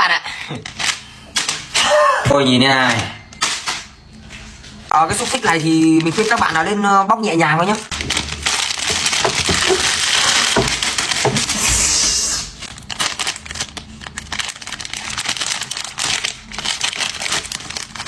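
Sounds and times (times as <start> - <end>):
plastic wrapper crinkling and tearing: 3.4 - 18.0.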